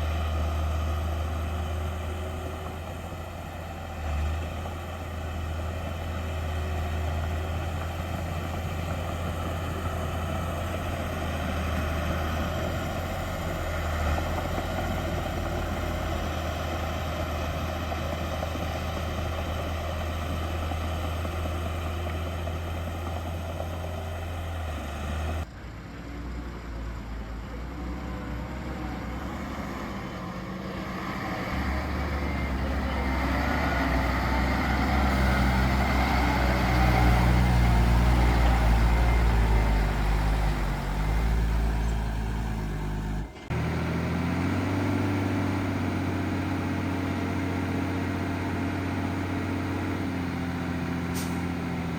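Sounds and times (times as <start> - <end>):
heavy diesel engine running: 0.0 - 51.9.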